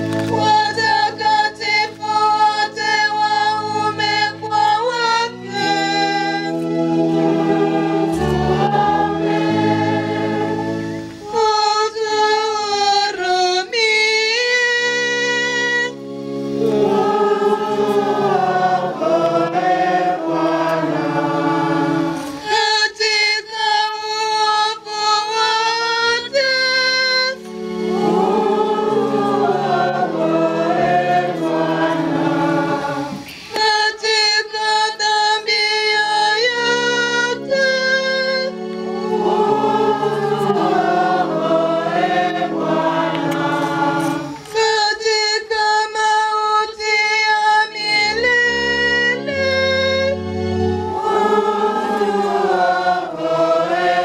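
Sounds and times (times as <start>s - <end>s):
accompanying chords: 0.0s - 54.0s
congregation singing a litany: 0.0s - 54.0s.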